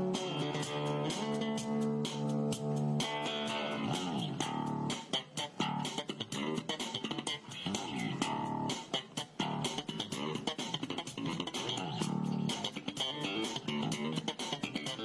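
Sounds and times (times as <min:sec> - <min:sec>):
plucked guitar music with bass: 0:00.0 - 0:15.0.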